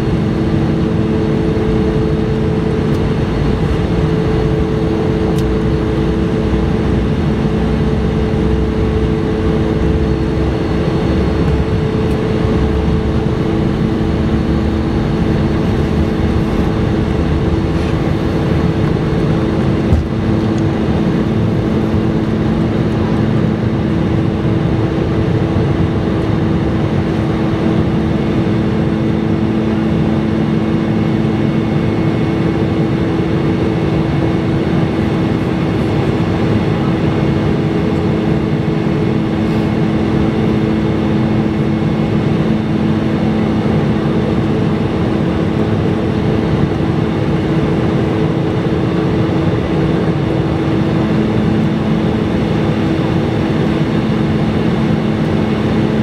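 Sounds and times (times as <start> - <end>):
jet engines at takeoff thrust: 0.0 - 56.0.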